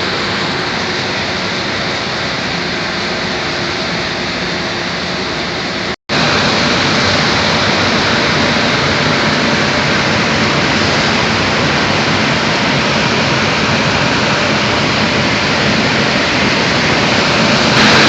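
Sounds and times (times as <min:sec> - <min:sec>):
machinery mechanical rush: 0:00.0 - 0:18.0.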